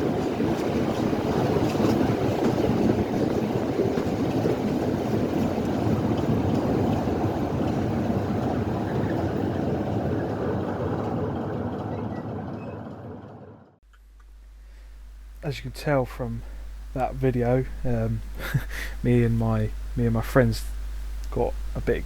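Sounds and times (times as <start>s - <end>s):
diesel locomotive engine rumbling: 0.0s - 13.8s, 15.0s - 22.0s.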